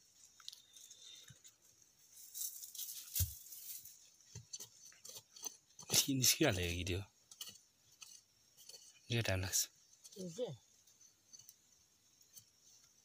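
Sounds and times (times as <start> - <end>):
dry soil being scraped and dug: 0.0 - 13.0.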